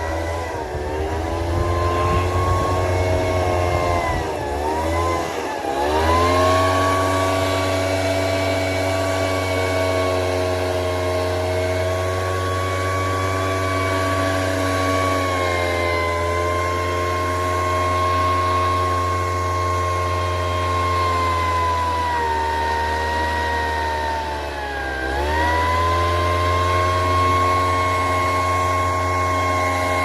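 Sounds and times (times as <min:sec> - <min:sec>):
motor humming: 0:00.0 - 0:30.0.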